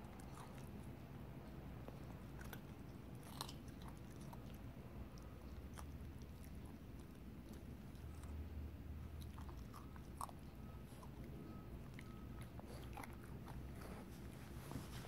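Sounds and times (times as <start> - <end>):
puppy crunching carrot: 0.0 - 15.0.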